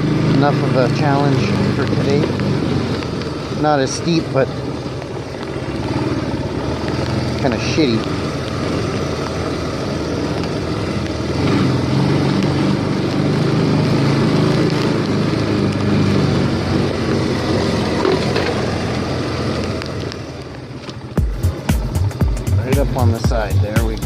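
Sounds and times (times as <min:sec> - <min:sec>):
small atv engine revving: 0:00.0 - 0:24.0.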